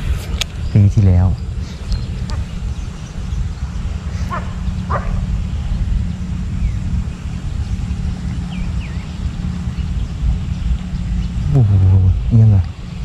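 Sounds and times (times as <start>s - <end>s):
wind buffeting microphone: 0.0s - 13.0s
distant animal calls: 1.5s - 12.5s.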